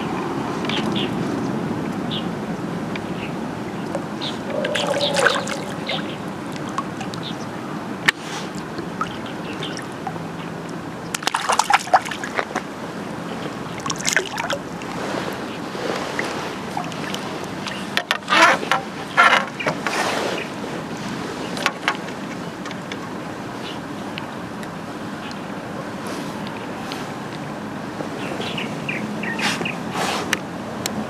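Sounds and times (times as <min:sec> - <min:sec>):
steady background noise: 0:00.0 - 0:31.0
water sloshing and splashing: 0:03.5 - 0:30.4.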